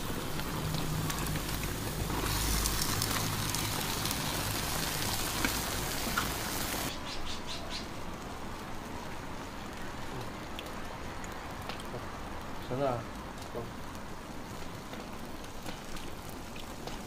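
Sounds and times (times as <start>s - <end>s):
stew boiling and bubbling: 0.0s - 17.0s.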